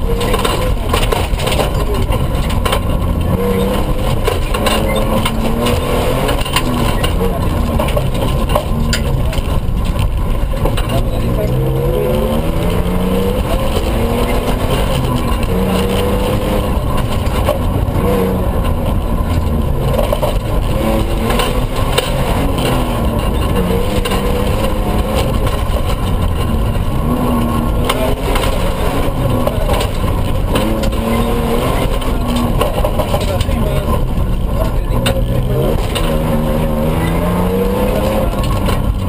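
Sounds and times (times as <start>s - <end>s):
truck engine revving: 0.0s - 39.0s
tyres rumbling on dirt road: 0.0s - 39.0s.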